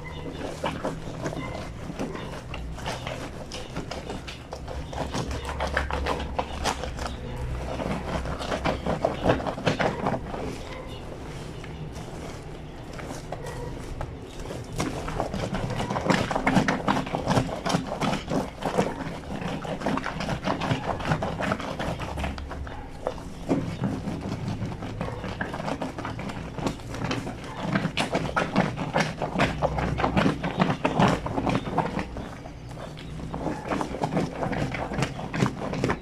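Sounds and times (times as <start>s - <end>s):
wet fabric scrubbed on washboard: 0.0s - 36.0s.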